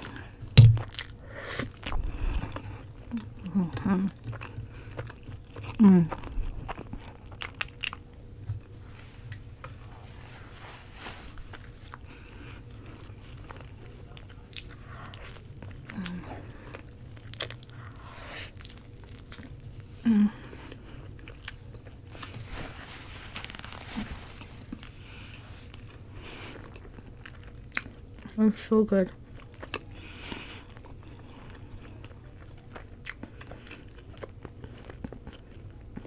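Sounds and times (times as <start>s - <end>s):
chewing and biting food: 0.0s - 10.3s, 11.4s - 19.8s, 24.5s - 28.4s, 29.1s - 36.0s.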